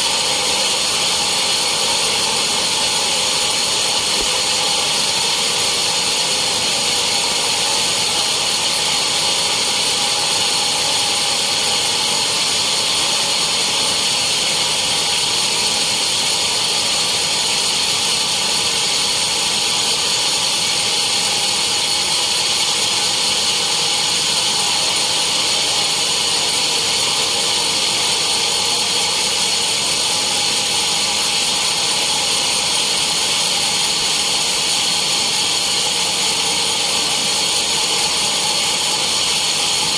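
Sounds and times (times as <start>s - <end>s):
sawmill saw hissing: 0.0s - 39.9s.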